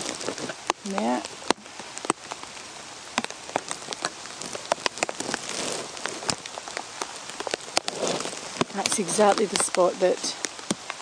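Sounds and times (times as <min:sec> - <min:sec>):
heavy rain hissing: 0:00.0 - 0:11.0
raindrops tapping on plastic: 0:00.0 - 0:11.0.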